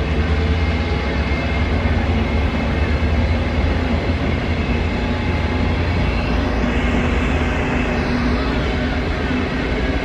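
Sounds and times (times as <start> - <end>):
train wheels rumbling on track: 0.0 - 10.0.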